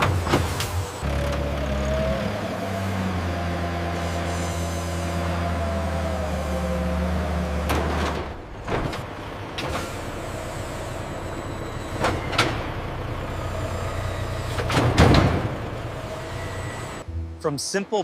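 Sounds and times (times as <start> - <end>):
vehicle engine low hum: 0.0 - 17.4.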